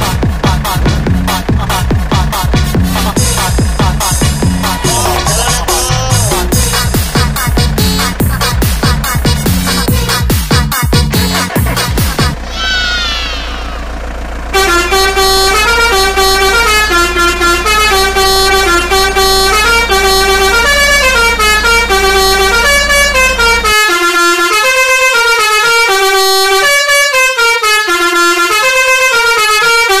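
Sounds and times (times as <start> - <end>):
multi-tone horn melody: 3.0 - 12.4, 14.5 - 30.0.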